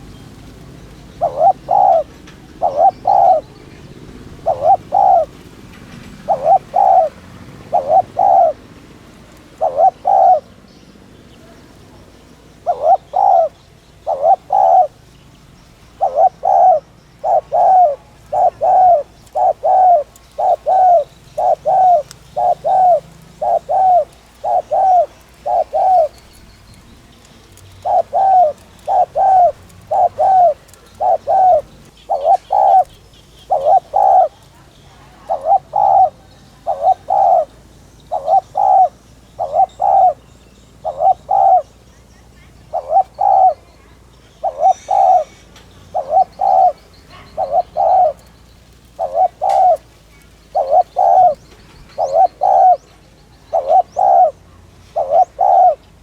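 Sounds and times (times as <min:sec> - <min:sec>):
dove cooing in rapid runs: 0:00.0 - 0:10.5, 0:11.6 - 0:15.0, 0:15.7 - 0:40.2, 0:40.8 - 0:41.8, 0:42.6 - 0:52.9, 0:53.5 - 0:54.4, 0:55.0 - 0:55.9.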